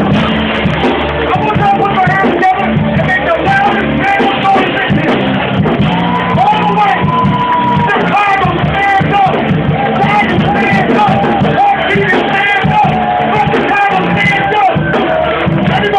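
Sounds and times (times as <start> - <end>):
bass line: 0.0 - 15.9
live band playing hip hop: 0.0 - 15.9
vocals: 0.0 - 15.9.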